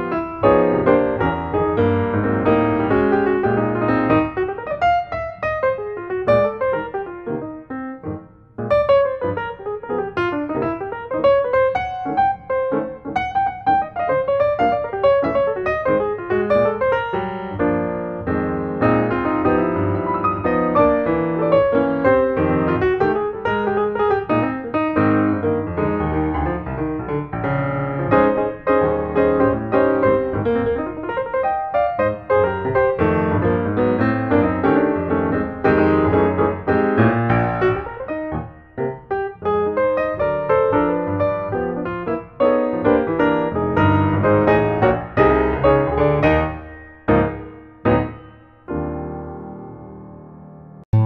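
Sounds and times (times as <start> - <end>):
piano music: 0.0 - 51.0.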